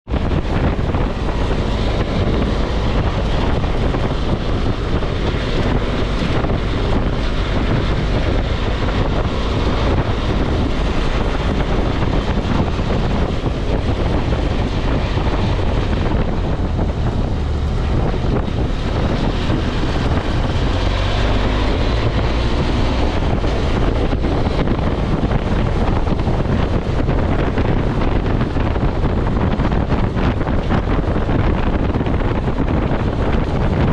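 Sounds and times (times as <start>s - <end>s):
motorcycle engine: 0.0s - 33.9s
road noise: 0.0s - 33.9s
wind buffeting microphone: 0.0s - 33.9s.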